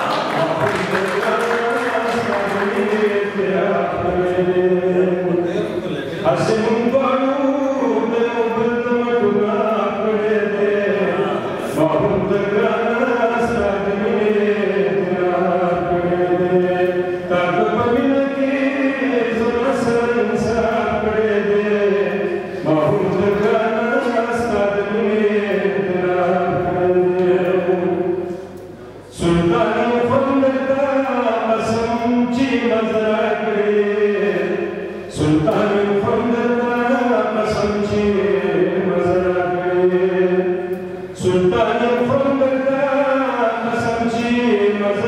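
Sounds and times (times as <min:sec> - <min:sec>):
man chanting poetry half-sung: 0:00.0 - 0:45.0.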